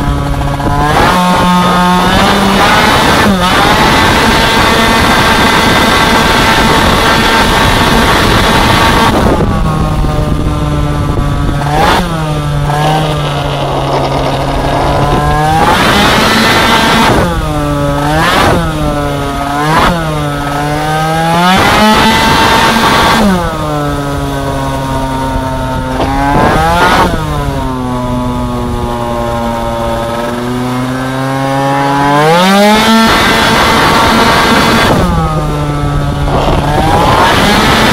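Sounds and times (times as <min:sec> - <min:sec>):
two-stroke scooter engine revving: 0:00.0 - 0:37.9.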